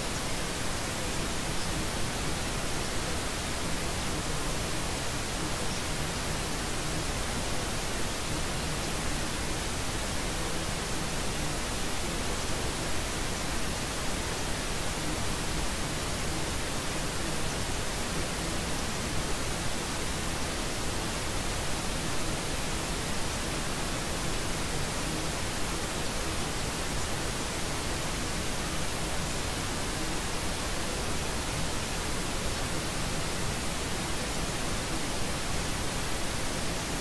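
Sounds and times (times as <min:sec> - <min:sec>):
white noise hiss: 0:00.0 - 0:37.0.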